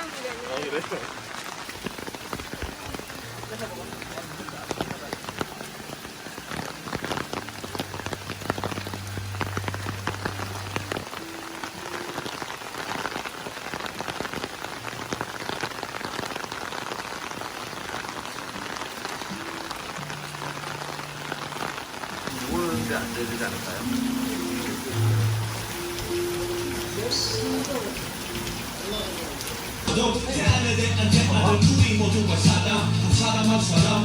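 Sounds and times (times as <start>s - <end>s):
rain pattering: 0.0s - 34.0s.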